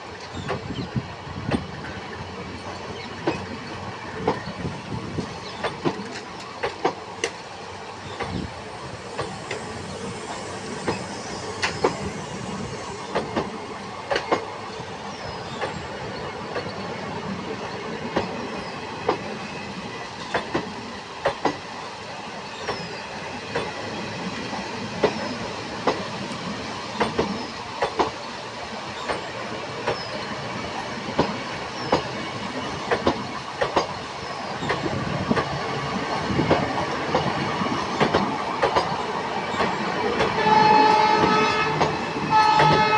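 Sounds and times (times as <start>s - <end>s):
train rolling rumble: 0.0s - 42.9s
train wheels clattering over rail joints: 0.2s - 2.0s, 2.6s - 17.0s, 18.0s - 21.7s, 22.5s - 42.9s.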